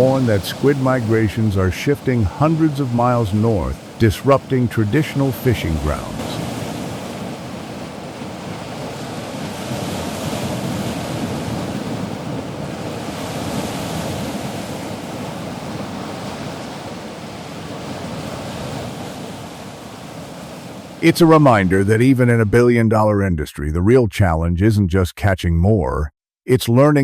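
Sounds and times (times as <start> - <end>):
sea waves washing: 0.0 - 22.6
wind: 0.0 - 25.9.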